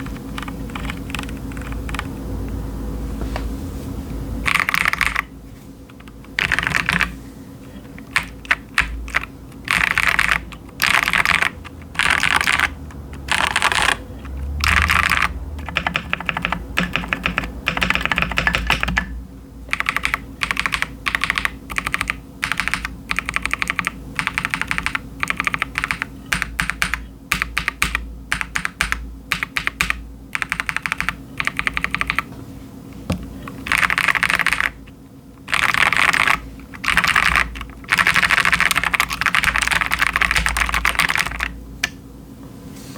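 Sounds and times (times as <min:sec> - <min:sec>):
mechanical keyboard typing: 0:00.0 - 0:02.1, 0:04.5 - 0:05.3, 0:05.9 - 0:19.1, 0:19.7 - 0:32.3, 0:33.1 - 0:41.6.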